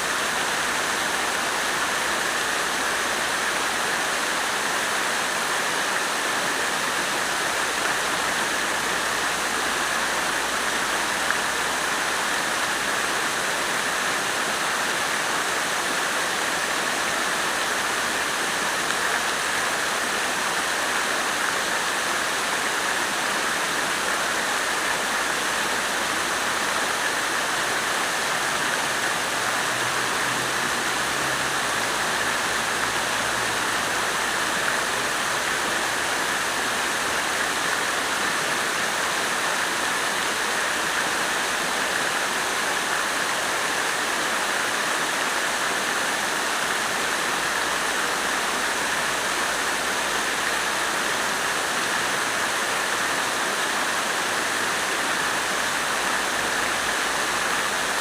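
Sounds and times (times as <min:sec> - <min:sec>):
water fountain splashing: 0:00.0 - 0:58.0.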